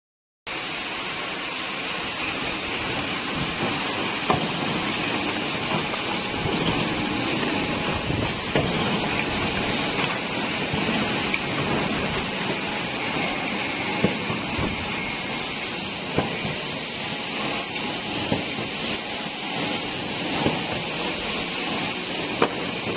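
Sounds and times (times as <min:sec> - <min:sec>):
packing machine hissing: 0:00.5 - 0:22.9.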